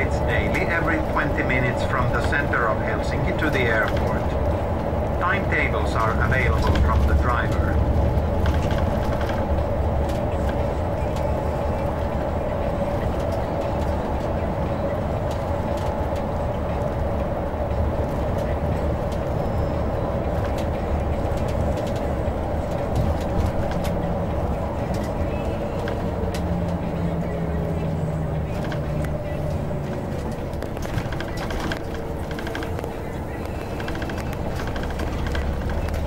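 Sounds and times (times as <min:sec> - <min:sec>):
engine and tyre rumble: 0:00.0 - 0:36.0.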